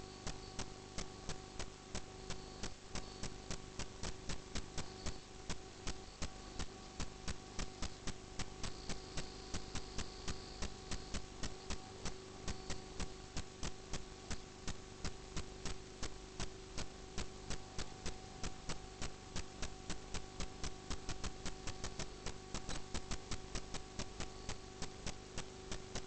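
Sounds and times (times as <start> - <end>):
steady electrical hum: 0.0 - 26.0
rapid clicking: 0.2 - 26.0.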